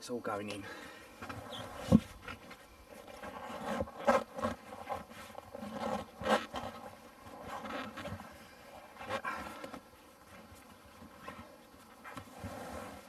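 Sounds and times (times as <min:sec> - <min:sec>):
rubber tyre rubbing on rim: 0:01.2 - 0:13.0.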